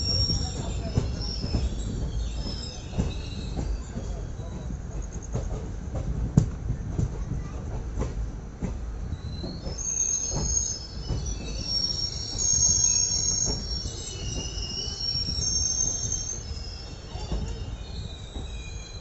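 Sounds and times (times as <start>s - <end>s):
rail joints clacking: 0.0s - 19.0s
train rumbling: 0.0s - 19.0s
train wheels squealing on rails: 0.0s - 19.0s.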